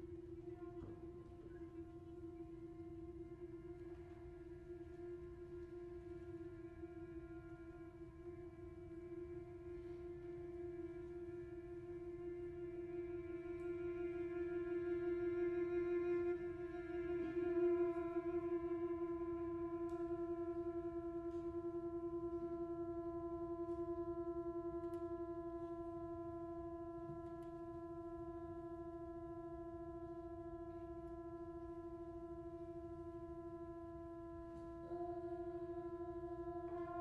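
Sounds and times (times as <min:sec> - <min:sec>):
cello long bowed note: 0:00.0 - 0:37.0.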